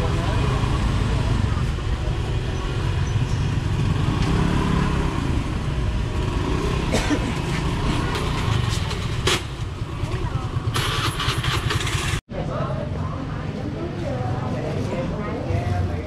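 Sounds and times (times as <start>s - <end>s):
motorbike engines rumbling: 0.0s - 16.0s.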